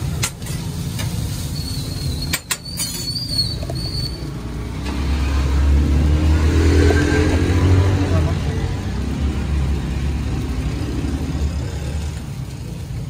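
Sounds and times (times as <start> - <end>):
low rumble of street traffic: 0.0 - 13.0
vehicle engine: 0.0 - 13.0.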